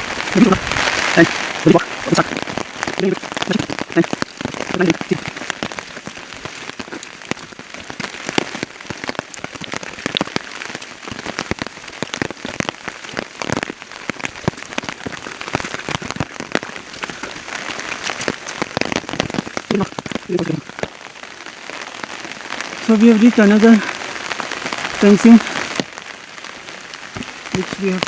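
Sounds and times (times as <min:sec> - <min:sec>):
raindrops tapping: 0:00.0 - 0:28.0
steady rain: 0:00.0 - 0:28.0.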